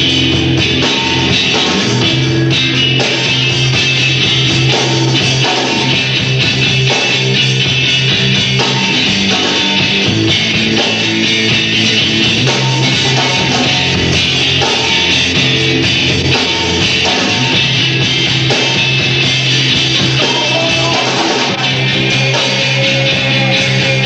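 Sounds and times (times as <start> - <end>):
bass guitar: 0.0 - 24.0
distorted electric guitars: 0.0 - 24.0
drum kit: 0.0 - 24.0.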